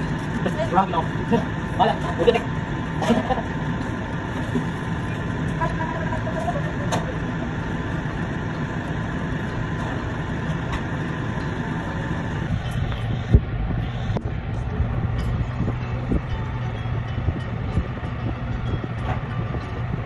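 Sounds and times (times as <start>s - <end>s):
road traffic: 0.0s - 20.0s
storm wind: 0.0s - 20.0s
vehicles driving through snow: 0.0s - 20.0s.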